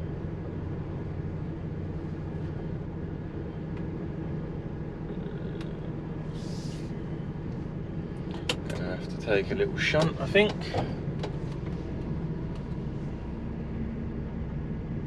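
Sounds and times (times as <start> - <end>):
diesel engine running at low revs: 0.0 - 15.0.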